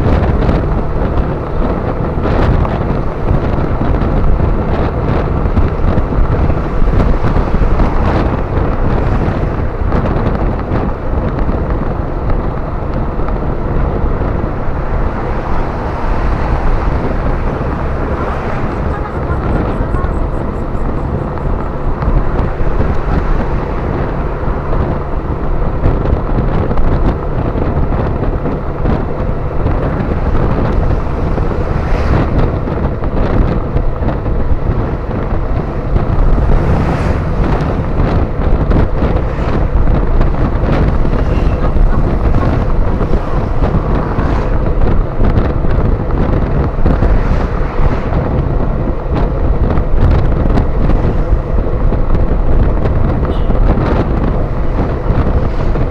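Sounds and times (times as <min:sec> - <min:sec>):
motorcycle engine running: 0:00.0 - 0:55.9
wind buffeting microphone: 0:00.0 - 0:55.9.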